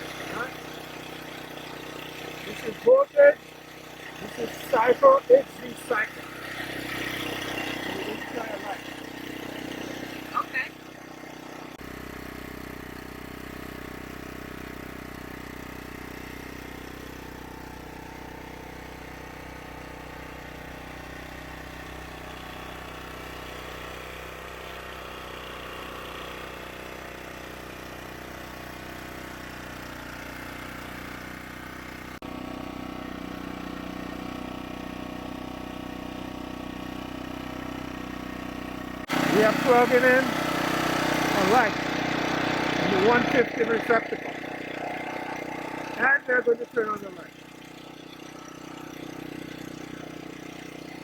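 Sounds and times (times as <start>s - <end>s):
generator engine running: 0.0s - 51.0s.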